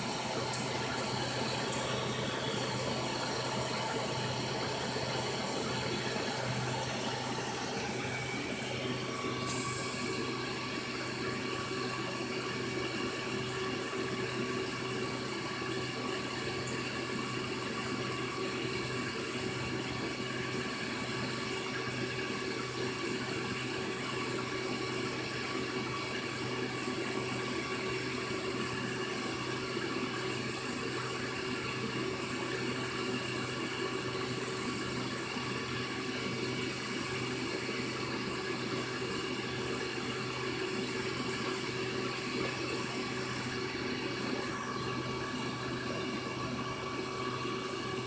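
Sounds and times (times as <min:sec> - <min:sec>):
faint pump hum: 0:00.0 - 0:48.0
water rushing in filter: 0:00.0 - 0:48.0.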